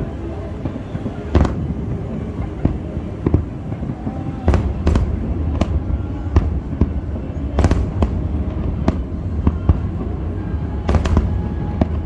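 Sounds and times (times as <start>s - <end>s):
continuous low rumble: 0.0s - 12.0s
fireworks bursting: 0.0s - 12.0s.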